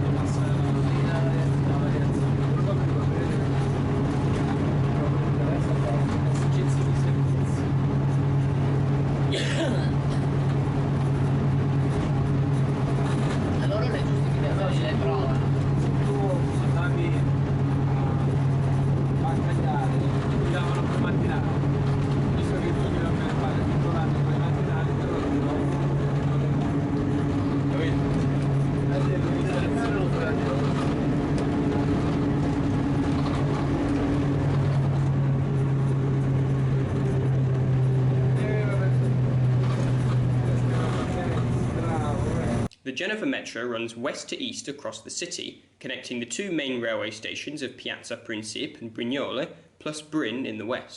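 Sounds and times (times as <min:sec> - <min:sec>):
rail vehicle humming: 0:00.0 - 0:42.7.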